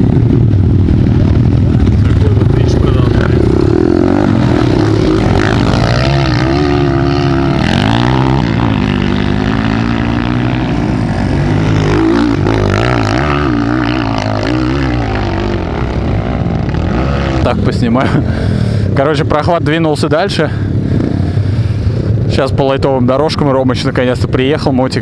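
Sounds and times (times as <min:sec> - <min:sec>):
motorcycle engines revving: 0:00.0 - 0:24.5.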